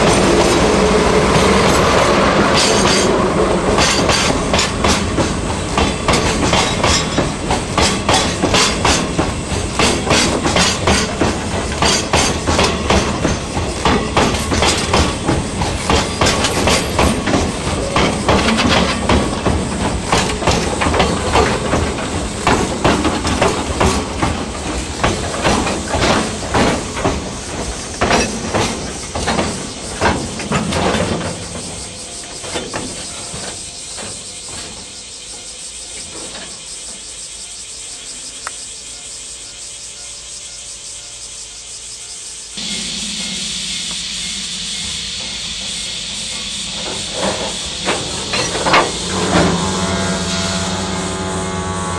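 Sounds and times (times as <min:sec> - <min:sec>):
train wheels clicking over rail joints: 0:00.0 - 0:37.4, 0:42.2 - 0:51.9
train rumble: 0:00.0 - 0:51.9.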